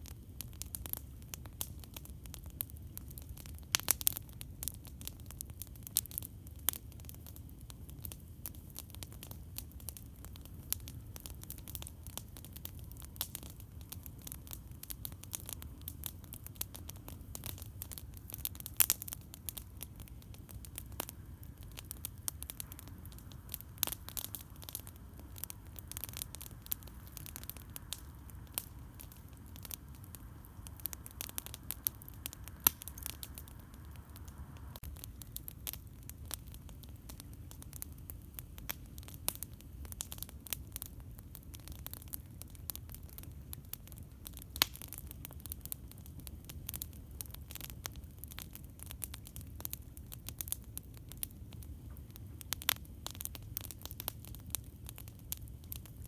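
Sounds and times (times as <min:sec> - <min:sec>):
low fire rumble: 0:00.0 - 0:56.0
campfire pops and snaps: 0:00.4 - 0:56.0.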